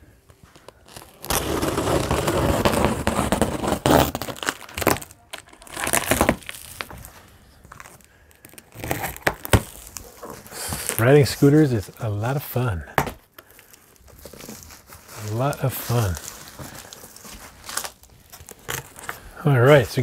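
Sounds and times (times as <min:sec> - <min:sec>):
packing tape ripping: 0:00.6 - 0:12.1, 0:13.0 - 0:19.2.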